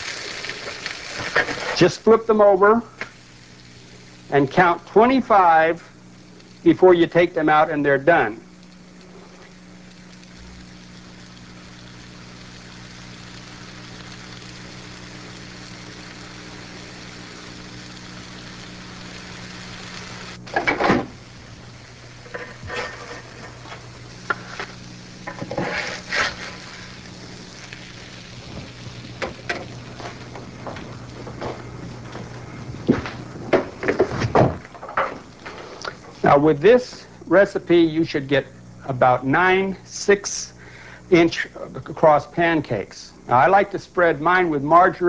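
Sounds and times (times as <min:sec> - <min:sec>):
pancakes sizzling in skillet: 0:00.0 - 0:38.9.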